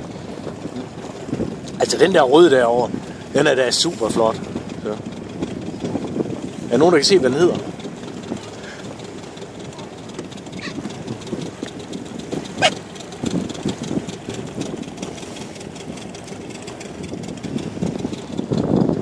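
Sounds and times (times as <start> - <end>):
outboard motor rough rumble: 0.0 - 19.0.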